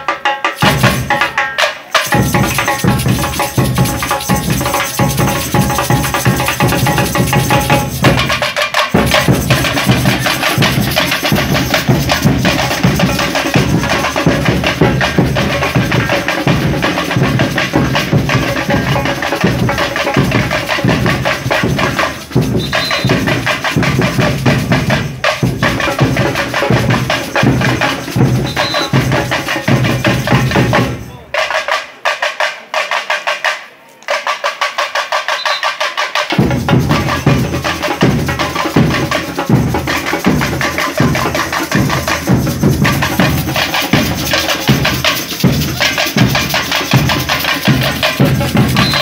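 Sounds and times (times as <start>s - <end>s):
drum group playing fast rhythm: 0.0s - 49.0s.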